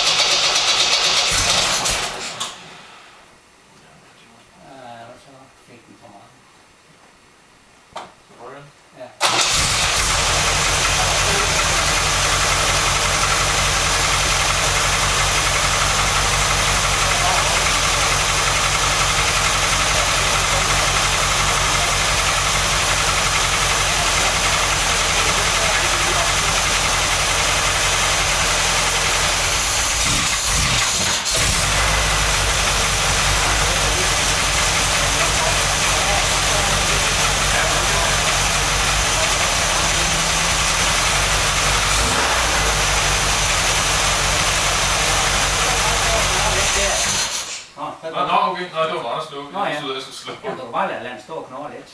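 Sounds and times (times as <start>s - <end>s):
car engine starting and idling: 0.0s - 3.3s, 9.2s - 47.7s.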